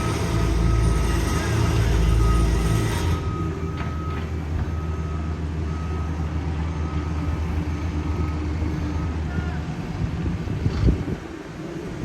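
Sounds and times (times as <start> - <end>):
reversing alarm beeps: 0.0 - 9.7
diesel engine running: 0.0 - 12.0.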